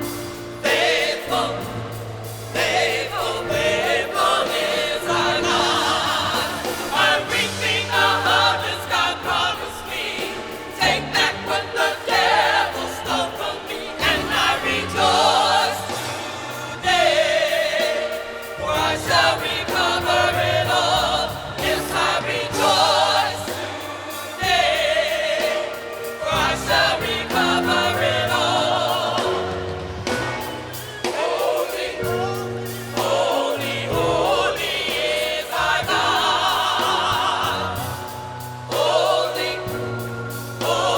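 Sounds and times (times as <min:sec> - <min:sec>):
gospel choir singing: 0:00.0 - 0:40.9.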